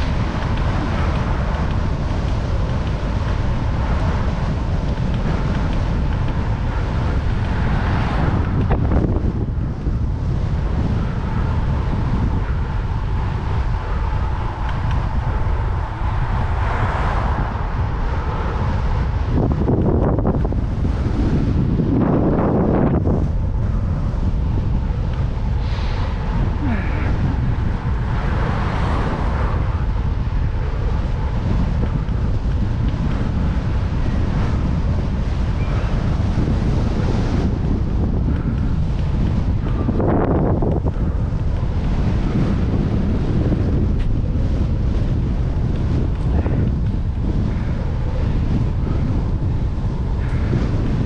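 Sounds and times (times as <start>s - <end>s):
faint steady whine: 0.0s - 51.0s
wind buffeting microphone: 0.0s - 51.0s.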